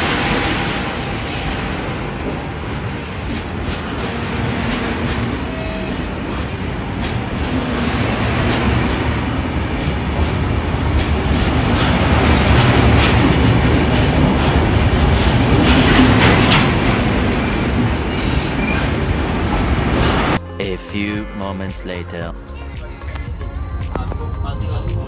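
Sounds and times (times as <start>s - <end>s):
train wheels rumbling on rail: 0.0s - 20.4s.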